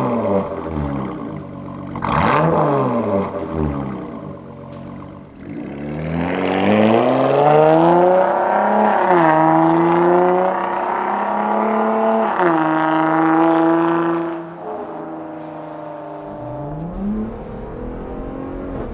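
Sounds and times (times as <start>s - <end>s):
engine accelerating with upshifts: 0.0s - 18.9s.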